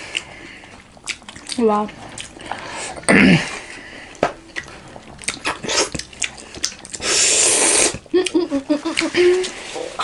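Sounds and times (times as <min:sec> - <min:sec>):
wet chewing and mouth smacks: 0:00.0 - 0:03.1, 0:04.1 - 0:10.0.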